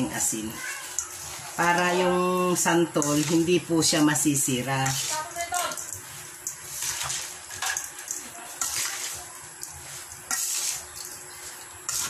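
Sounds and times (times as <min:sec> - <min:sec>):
hands mixing food in metal bowl: 0:00.0 - 0:12.0.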